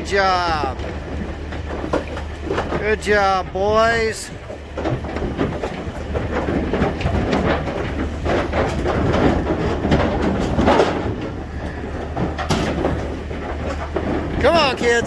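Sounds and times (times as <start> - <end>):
hooves on metal floor: 0.0 - 15.0
steady low rumble: 0.0 - 15.0.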